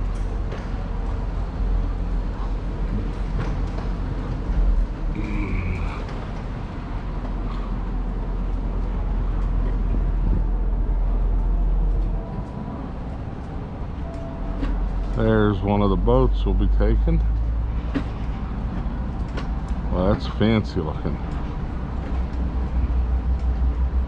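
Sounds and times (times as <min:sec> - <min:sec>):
low city traffic rumble: 0:00.0 - 0:24.0.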